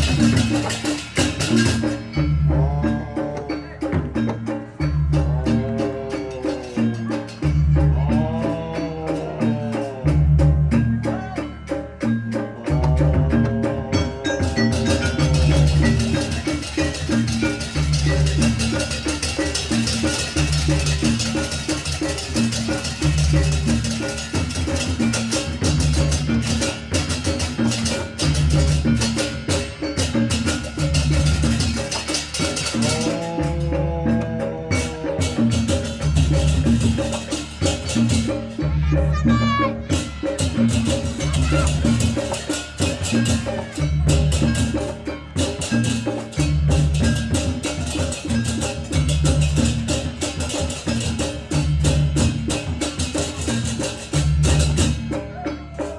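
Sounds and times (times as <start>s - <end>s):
loud drums: 0.0s - 55.9s
tuned struck percussion: 0.0s - 55.9s.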